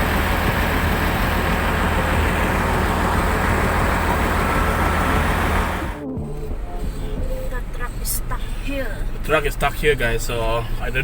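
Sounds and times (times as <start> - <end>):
heavy vehicle engine droning: 0.0 - 11.0.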